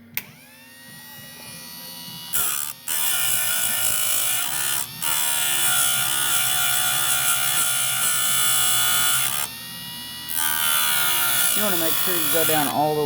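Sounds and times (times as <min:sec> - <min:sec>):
motor hum: 0:00.0 - 0:13.0
grinding wheel grinding steel: 0:00.4 - 0:13.0.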